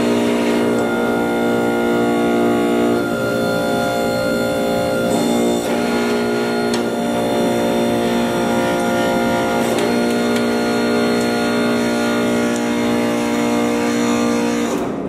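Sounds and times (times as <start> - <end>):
hydraulic press motor humming: 0.0 - 15.0.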